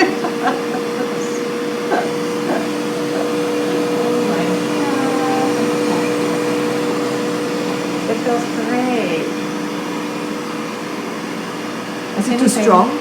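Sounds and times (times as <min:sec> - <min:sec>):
bidet motor humming: 0:00.0 - 0:13.0.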